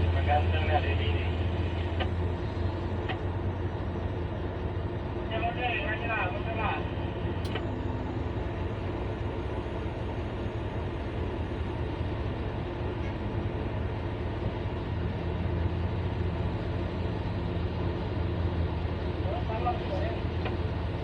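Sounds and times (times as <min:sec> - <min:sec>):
excavator diesel engine rumbling: 0:00.0 - 0:21.0.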